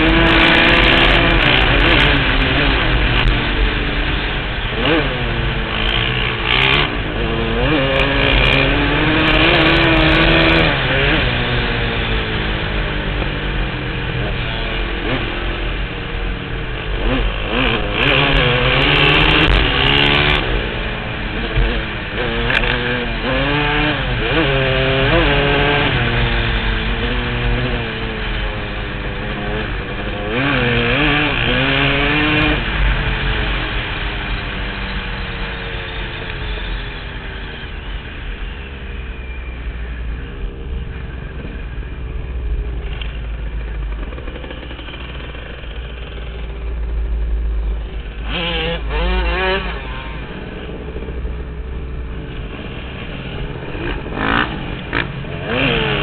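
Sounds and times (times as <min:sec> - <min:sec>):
dirt bike engine revving: 0:00.0 - 0:37.6, 0:39.2 - 0:56.0.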